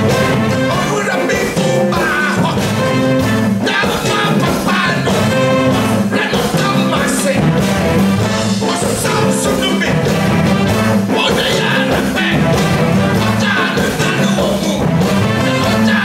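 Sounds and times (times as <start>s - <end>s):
man singing lead: 0.0s - 7.7s, 8.3s - 10.5s, 11.1s - 16.0s
brass section playing: 0.0s - 16.0s
hand drums: 0.0s - 16.0s.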